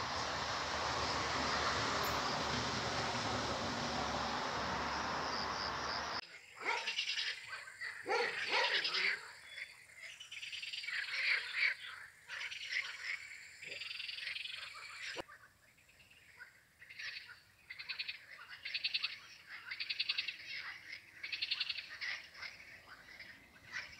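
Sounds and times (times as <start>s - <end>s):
frogs croaking in chorus: 4.2s - 23.9s.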